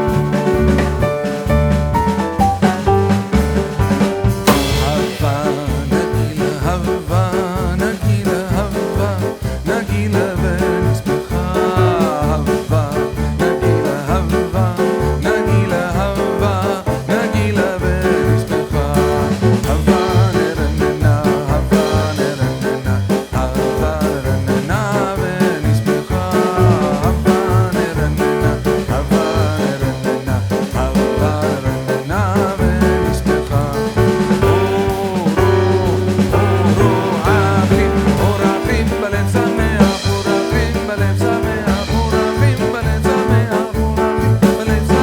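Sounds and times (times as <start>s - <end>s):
upbeat song with driving beat: 0.0s - 45.0s.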